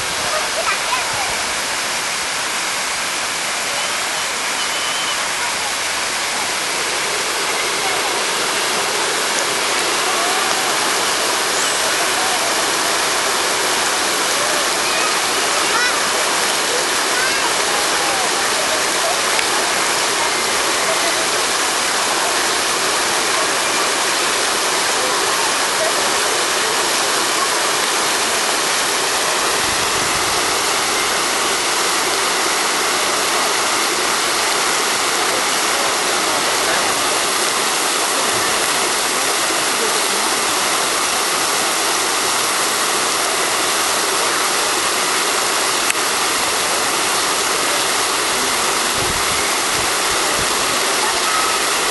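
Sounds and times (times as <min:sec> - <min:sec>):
fountain water splashing: 0:00.0 - 0:51.9.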